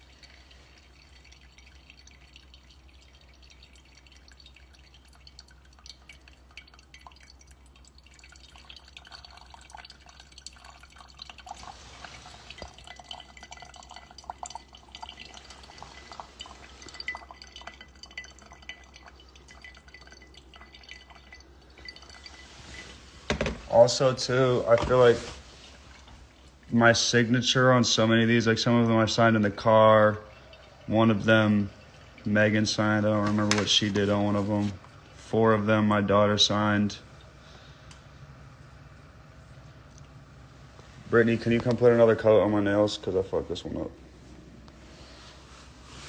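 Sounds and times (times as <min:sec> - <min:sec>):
coffee dripping and trickling: 0:00.0 - 0:46.0.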